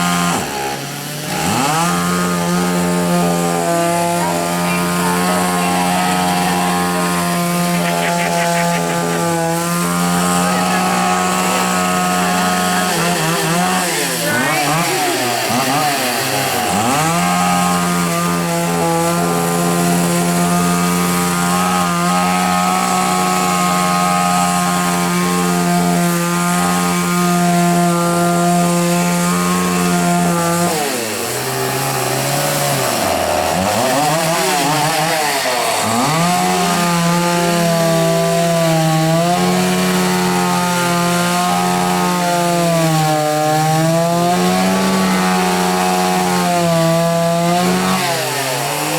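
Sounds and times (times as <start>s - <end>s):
chainsaw engine at high revs: 0.0s - 48.9s.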